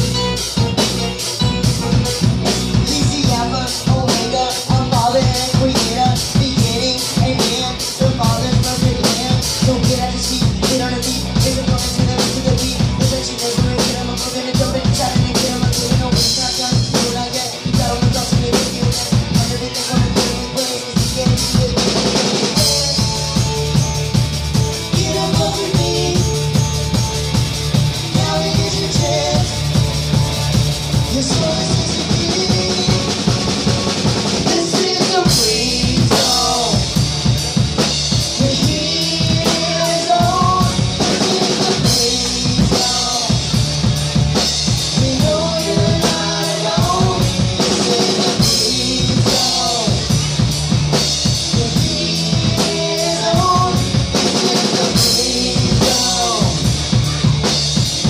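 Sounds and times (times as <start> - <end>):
drum kit beat: 0.0 - 58.0
live rock band playing: 0.0 - 58.0.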